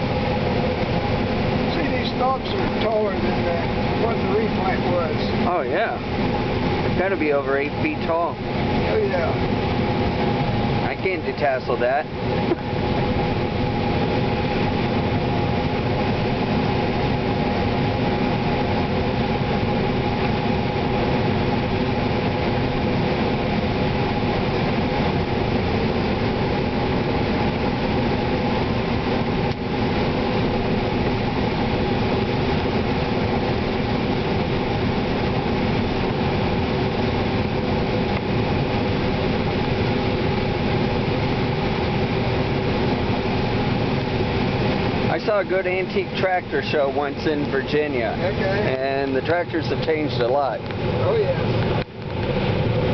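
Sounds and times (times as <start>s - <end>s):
combine engine and machinery drone: 0.0s - 52.9s.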